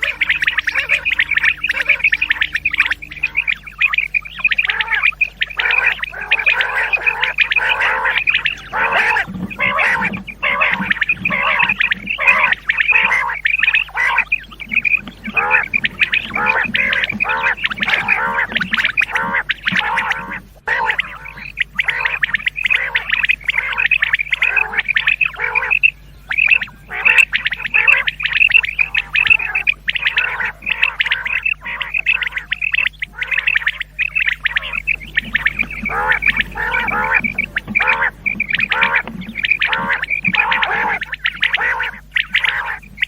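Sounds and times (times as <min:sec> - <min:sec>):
quail calling: 0:00.0 - 0:43.0.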